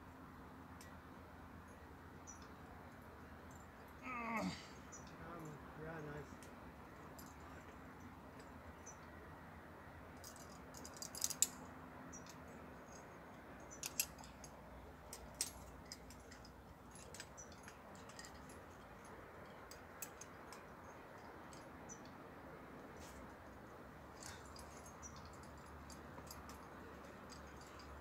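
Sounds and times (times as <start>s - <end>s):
metal climbing gear clinking: 1.6s - 9.1s, 10.2s - 22.2s, 22.9s - 28.0s.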